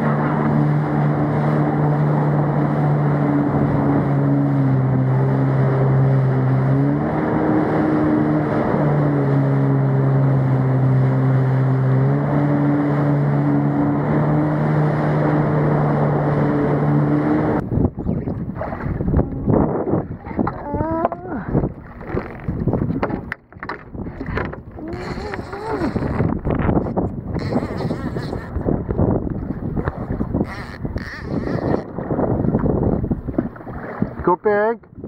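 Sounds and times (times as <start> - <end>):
rush of spray and wind: 0.0 - 23.3, 23.9 - 34.7
jet ski engine running: 0.0 - 35.0.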